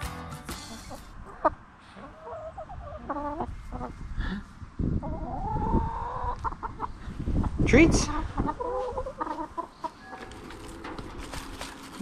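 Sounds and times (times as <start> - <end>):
hens clucking: 0.5 - 4.2, 4.8 - 12.0.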